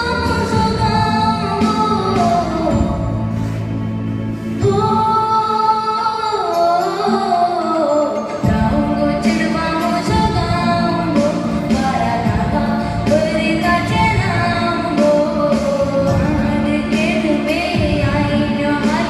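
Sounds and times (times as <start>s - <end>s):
music with steady beat: 0.0s - 5.4s, 8.1s - 19.0s.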